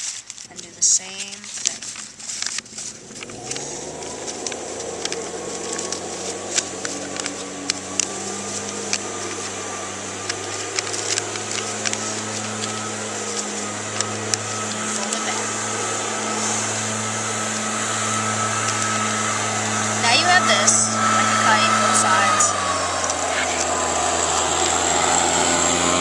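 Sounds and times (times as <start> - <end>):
paper crinkling: 0.0 - 20.8, 21.4 - 25.2
low hum: 1.6 - 26.0.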